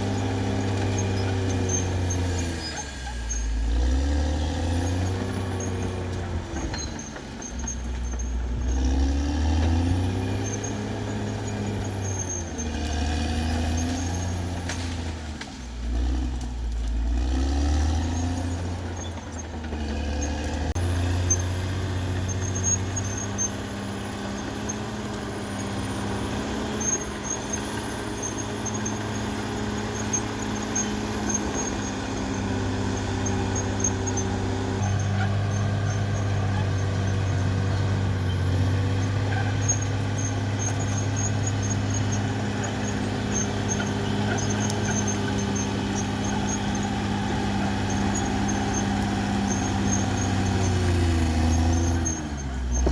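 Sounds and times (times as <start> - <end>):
bulldozer diesel engine working: 0.0 - 52.9.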